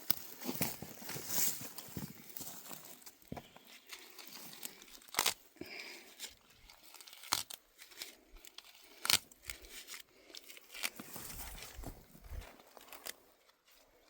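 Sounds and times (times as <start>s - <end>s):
dry crinkling and crackling: 0.0s - 14.0s.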